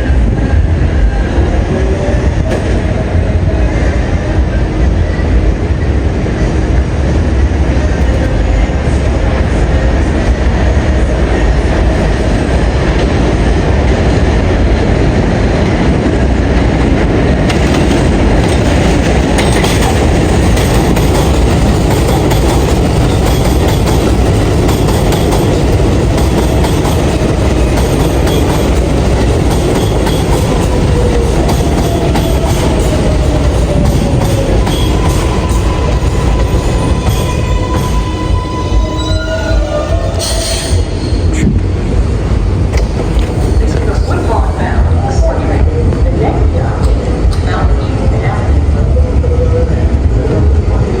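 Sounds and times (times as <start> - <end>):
subway train rumbling: 0.0 - 51.0.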